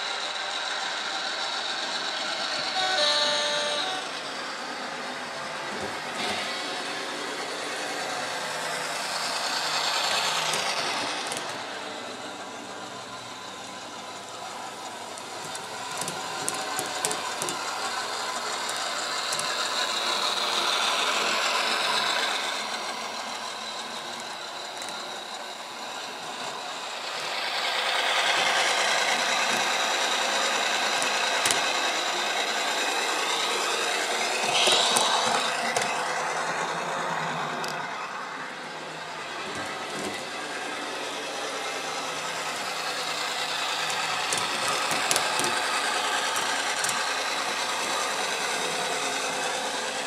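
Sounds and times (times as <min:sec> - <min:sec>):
model train wheels clicking on rails: 0:00.0 - 0:50.0
whirr of motor and gears: 0:00.0 - 0:50.0.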